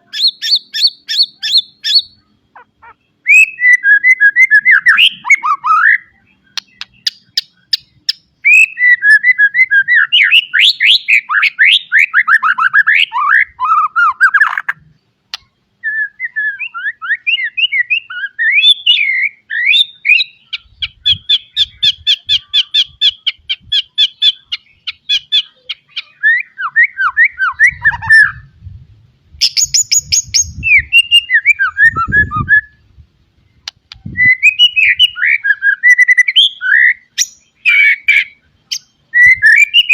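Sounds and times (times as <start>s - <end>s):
songbird whistling song: 0.0s - 28.7s, 29.3s - 39.9s.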